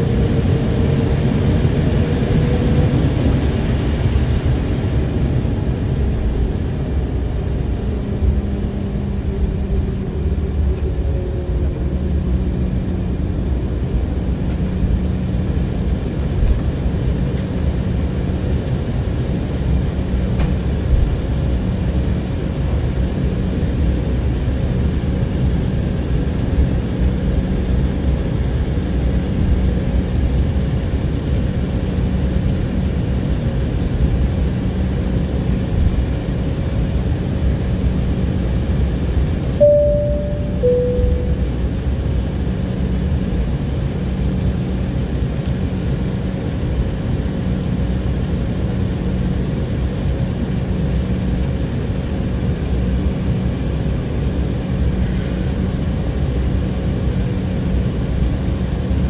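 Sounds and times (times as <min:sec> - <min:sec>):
airliner cabin engine rumble: 0:00.0 - 0:59.0
steady engine hum: 0:00.0 - 0:59.0.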